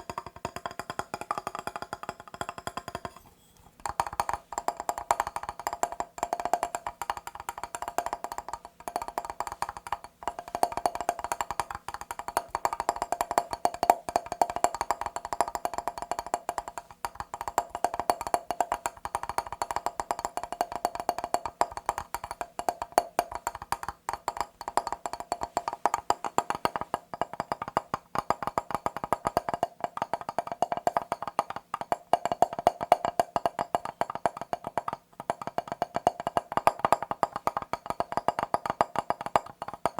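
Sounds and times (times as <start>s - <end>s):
fast tapping on a mirror: 0.0s - 39.9s.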